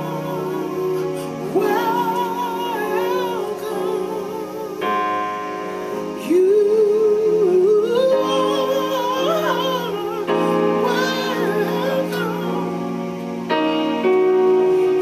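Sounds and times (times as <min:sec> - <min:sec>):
woman singing gospel: 0:00.0 - 0:05.3, 0:06.2 - 0:13.0
sustained keyboard chords: 0:00.0 - 0:15.0.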